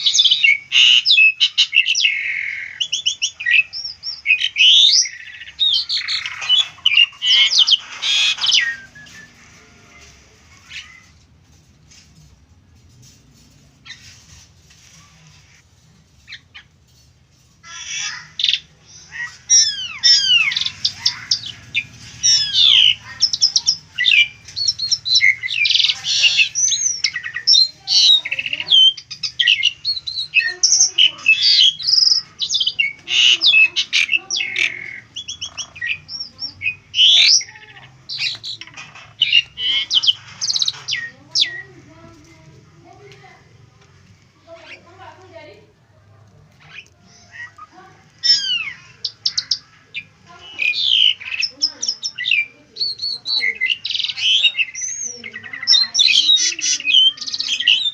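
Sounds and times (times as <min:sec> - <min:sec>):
starling singing: 0:00.0 - 0:11.5, 0:17.6 - 0:57.9.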